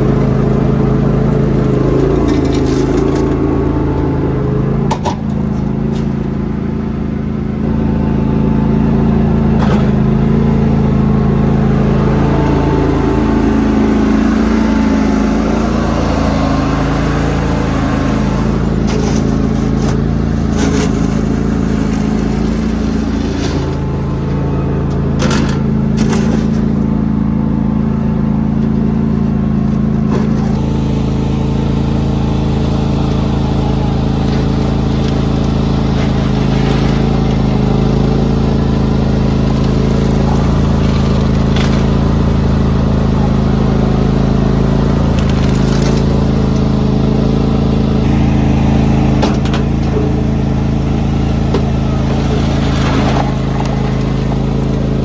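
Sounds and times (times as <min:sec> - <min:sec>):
lawn tractor engine running: 0:00.0 - 0:55.0.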